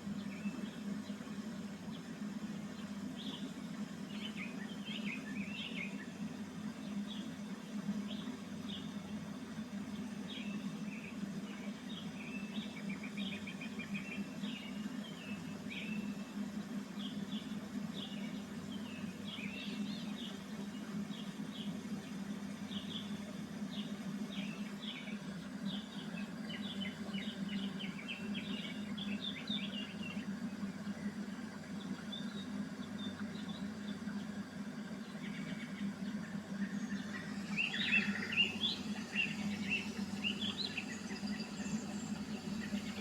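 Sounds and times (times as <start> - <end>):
songbirds chirping and trilling: 0.1 - 43.0.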